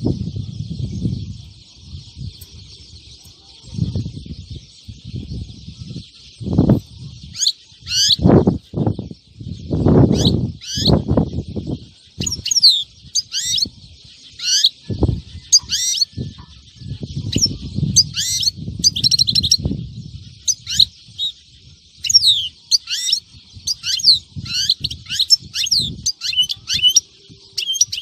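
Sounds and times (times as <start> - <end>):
goldfinch twittering chirps: 0.0 - 28.0.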